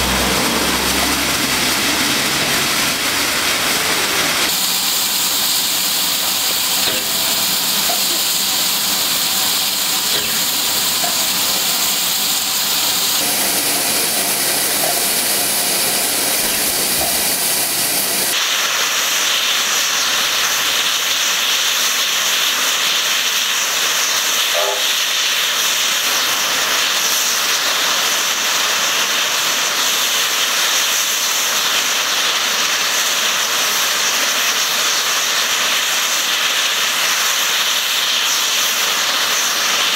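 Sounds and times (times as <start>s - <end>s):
steam locomotive blowing off steam: 0.0s - 39.9s.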